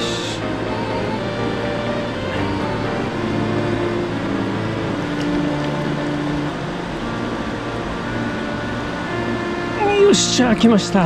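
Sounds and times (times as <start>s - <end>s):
music of held notes: 0.0s - 11.0s
river rushing: 0.0s - 11.0s.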